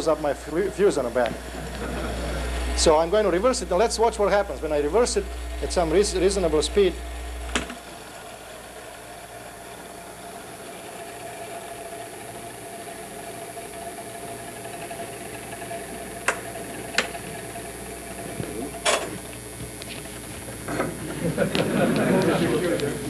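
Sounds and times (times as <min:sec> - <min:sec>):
background hum with high whine: 0:00.0 - 0:23.0.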